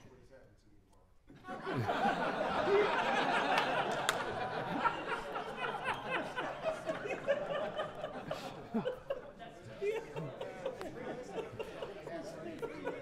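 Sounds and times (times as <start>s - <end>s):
people laughing: 1.3s - 13.0s
people chattering: 1.4s - 13.0s.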